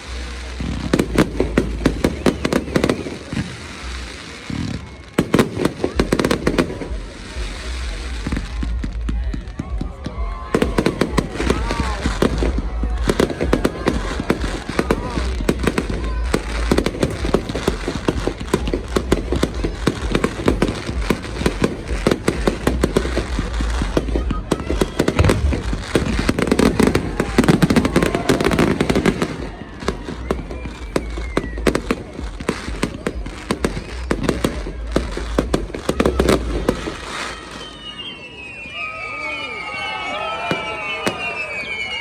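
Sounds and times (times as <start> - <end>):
crowd voices: 0.0 - 42.0
fireworks cracking and banging: 0.0 - 42.0.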